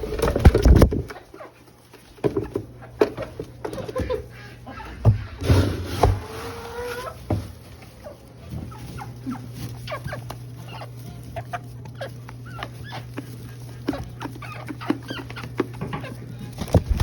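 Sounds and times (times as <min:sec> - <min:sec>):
chickens clucking and chirping: 0:00.0 - 0:17.0.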